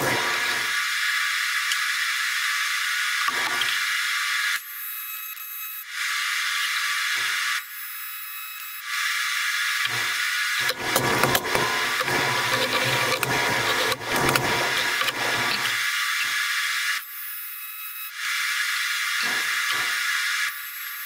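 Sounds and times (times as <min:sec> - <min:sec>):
welding arc hiss: 0:00.0 - 0:07.7, 0:08.8 - 0:21.0.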